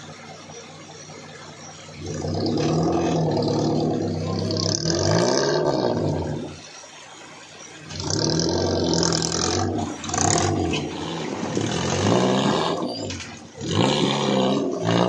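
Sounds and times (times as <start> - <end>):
off-road engine revving hard: 0.0 - 15.0.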